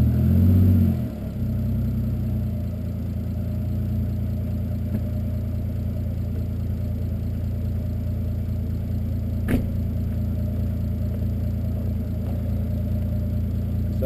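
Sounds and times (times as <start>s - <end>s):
car engine idling: 1.1s - 14.0s.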